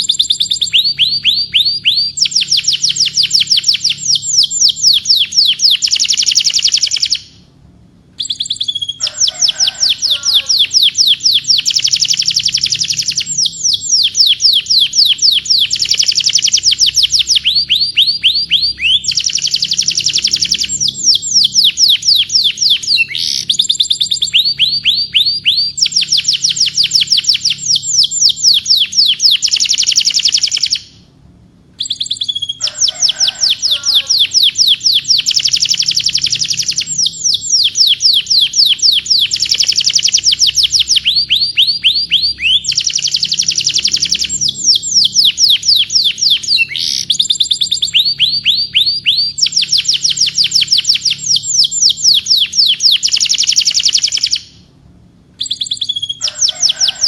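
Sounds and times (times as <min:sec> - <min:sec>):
canary singing trills: 0:00.0 - 0:07.6, 0:08.2 - 0:31.1, 0:31.8 - 0:54.7, 0:55.4 - 0:57.0.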